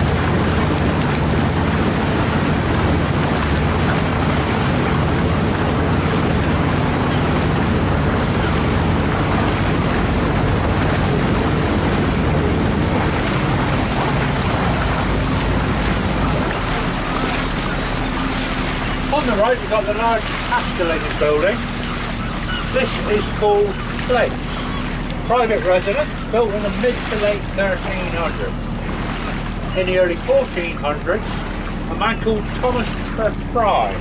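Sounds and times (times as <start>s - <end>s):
wind on microphone: 0.0s - 30.8s
boat engine running: 0.0s - 34.0s
water wash: 0.0s - 34.0s.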